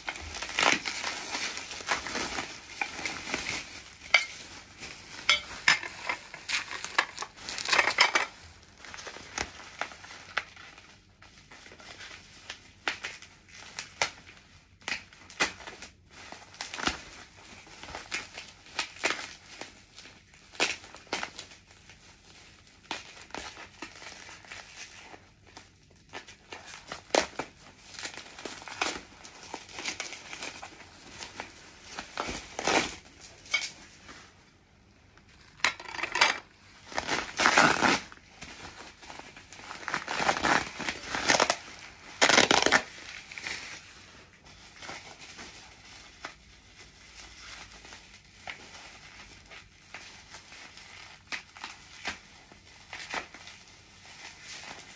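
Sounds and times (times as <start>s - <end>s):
bubble wrap crinkling: 0.0s - 54.9s.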